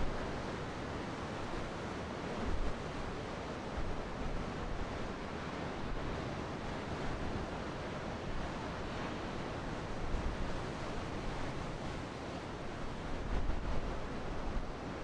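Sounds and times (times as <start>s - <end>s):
ocean surf breaking on shore: 0.0s - 15.0s
wind buffeting microphone: 2.4s - 15.0s.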